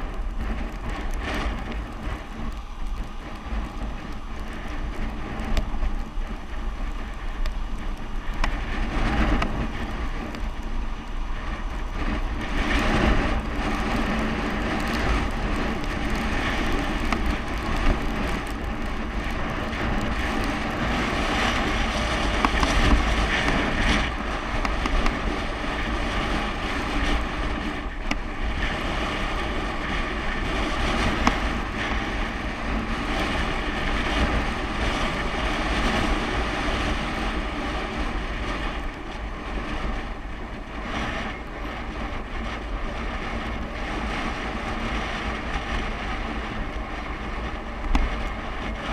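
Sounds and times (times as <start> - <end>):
road rumble: 0.0 - 48.9
wind rushing over microphone: 0.0 - 48.9.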